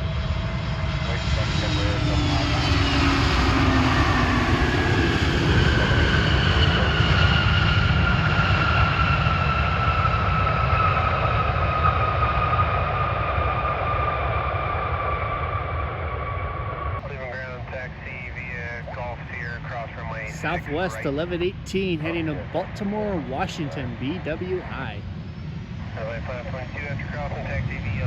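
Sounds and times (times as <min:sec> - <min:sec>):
jet engines rumbling and whining: 0:00.0 - 0:28.0.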